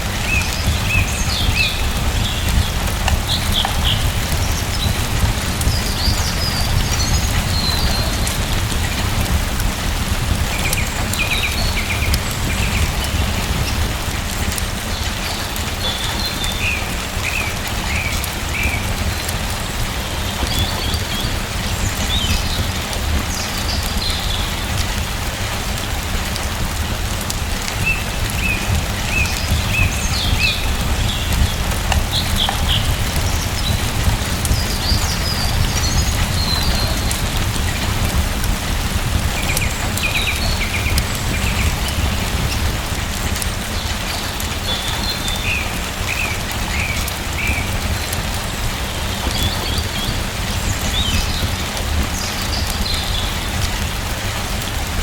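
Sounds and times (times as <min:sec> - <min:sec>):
small birds chirping: 0:00.0 - 0:26.2, 0:26.9 - 0:54.3
steady rain falling: 0:00.0 - 0:55.0.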